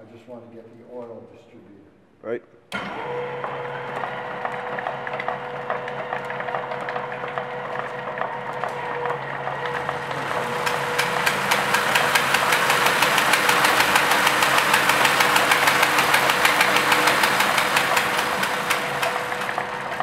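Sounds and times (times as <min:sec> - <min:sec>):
machine hum: 0:02.7 - 0:20.0
machine clattering: 0:03.4 - 0:20.0.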